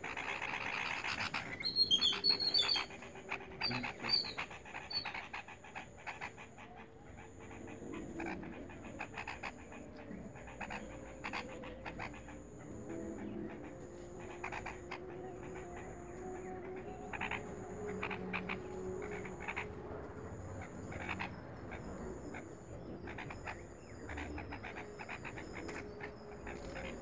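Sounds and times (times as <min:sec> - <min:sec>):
nestling birds chirping: 0:00.0 - 0:27.0.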